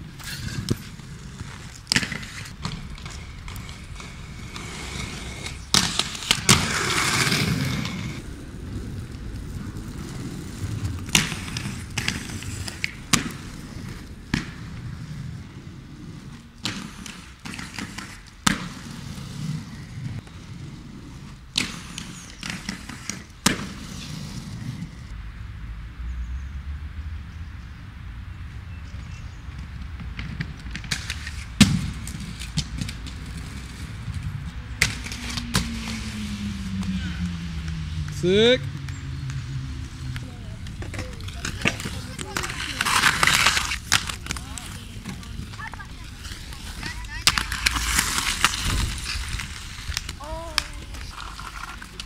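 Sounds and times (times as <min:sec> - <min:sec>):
skate wheels clacking on ground: 0:00.0 - 0:25.2, 0:28.9 - 0:52.0
skates scraping and rolling: 0:00.0 - 0:52.0.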